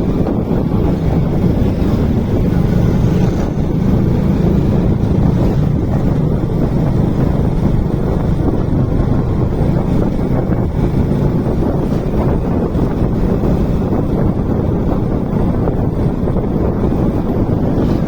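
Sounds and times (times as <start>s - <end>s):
motorcycle engine drone: 0.0s - 18.0s
wind buffeting microphone: 0.0s - 18.0s.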